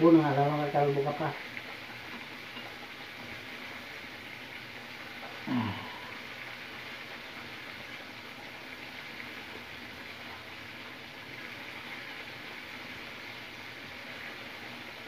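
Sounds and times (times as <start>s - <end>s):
livers sizzling in hot oil: 0.0s - 15.0s.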